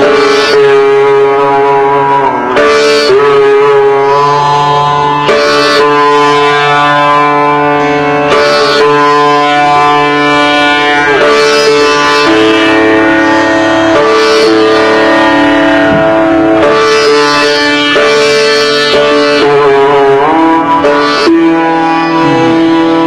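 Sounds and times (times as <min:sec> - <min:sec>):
low drone: 0:00.0 - 0:23.0
sitar plucked notes: 0:00.0 - 0:23.0.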